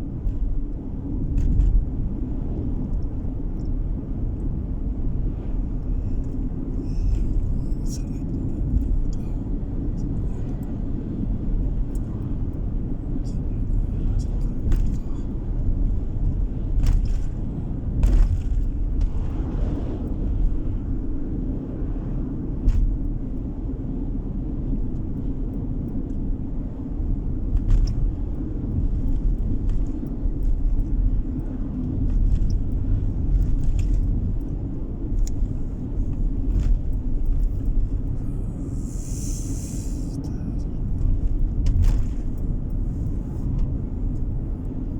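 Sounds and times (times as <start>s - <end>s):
car interior road rumble: 0.0s - 44.9s.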